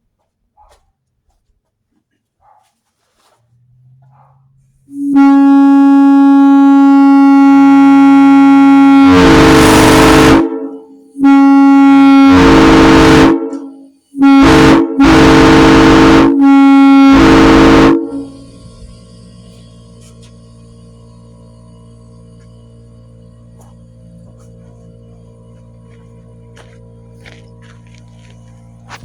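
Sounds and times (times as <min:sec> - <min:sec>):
locomotive air horn blasts: 0:04.8 - 0:29.0.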